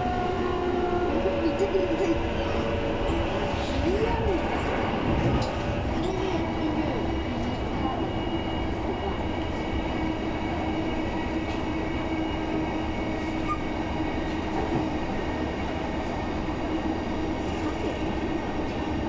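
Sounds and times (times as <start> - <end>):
constant train whine: 0.0 - 19.0
train wheels rumbling on rail: 0.0 - 19.0.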